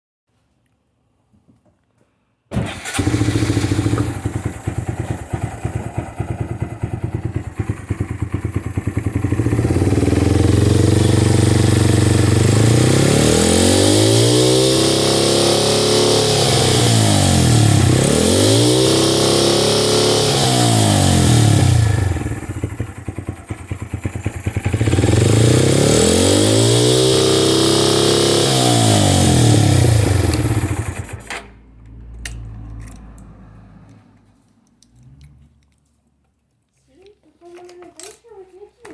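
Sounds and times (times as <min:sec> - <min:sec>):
motorcycle engine idling and revving: 0:02.6 - 0:34.3.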